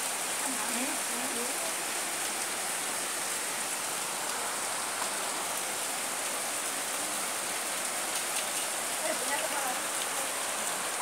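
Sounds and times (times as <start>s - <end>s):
steady pouring rain: 0.0s - 11.0s.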